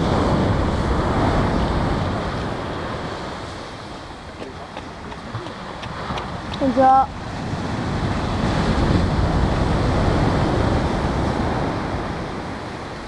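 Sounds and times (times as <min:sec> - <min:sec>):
ocean wave washing up beach: 0:00.0 - 0:13.0
wind buffeting microphone: 0:00.0 - 0:13.0.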